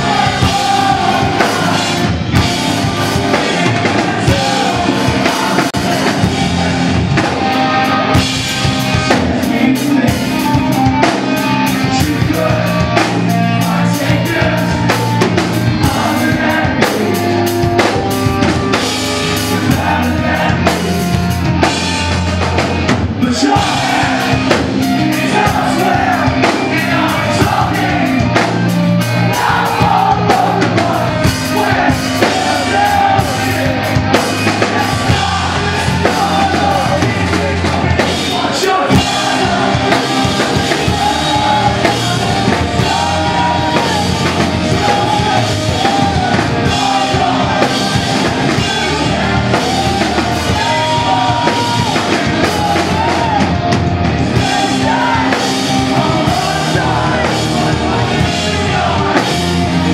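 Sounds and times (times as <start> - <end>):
drum kit: 0.0 - 59.9
person singing lead vocal: 0.0 - 59.9
rock band playing live: 0.0 - 59.9.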